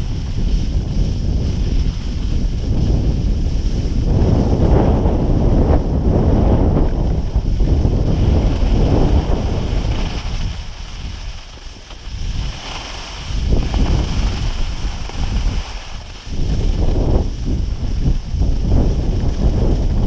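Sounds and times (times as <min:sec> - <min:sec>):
skis sliding on snow: 0:00.0 - 0:20.0
wind rushing over microphone: 0:00.0 - 0:20.0.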